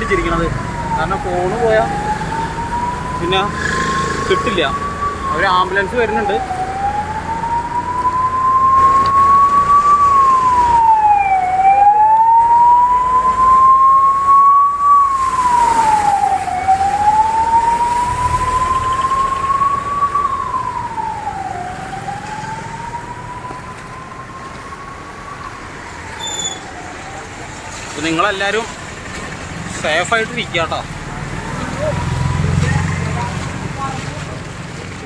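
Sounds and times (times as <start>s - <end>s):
ambulance siren wailing: 0.0s - 34.4s.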